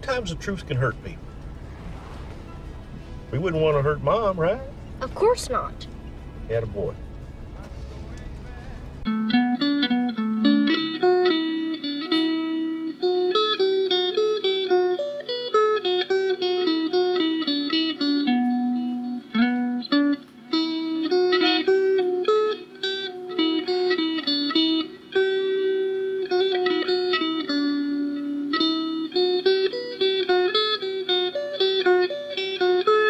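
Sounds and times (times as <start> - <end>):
plucked guitar-like melody: 0.0 - 33.0.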